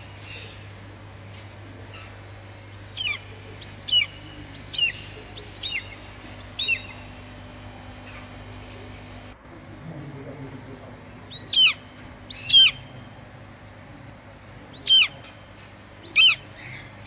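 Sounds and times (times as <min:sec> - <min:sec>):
bird calling: 0:00.0 - 0:09.3, 0:11.0 - 0:17.0
faint steady hum: 0:00.0 - 0:17.0.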